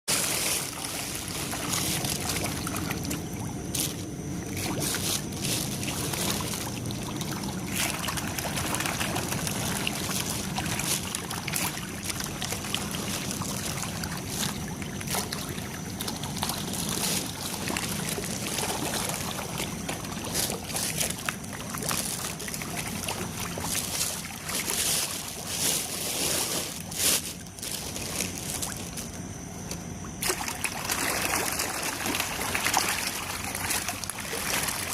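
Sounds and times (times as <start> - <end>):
water trickling and splashing: 0.1 - 34.9.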